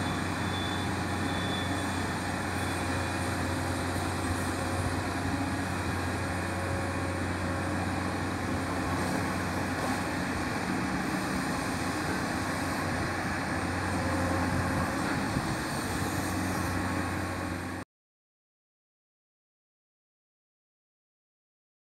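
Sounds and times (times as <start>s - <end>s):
excavator diesel engine running: 0.0s - 17.8s.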